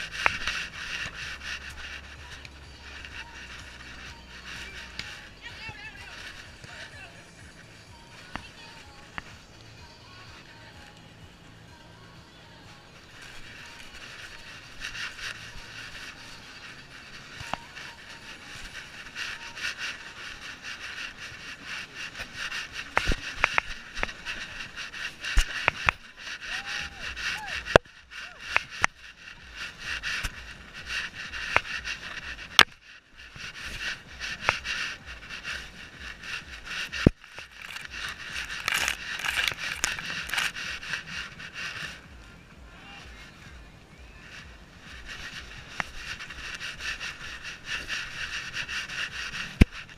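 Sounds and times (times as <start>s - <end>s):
camera scraping against fur: 0.0s - 49.9s.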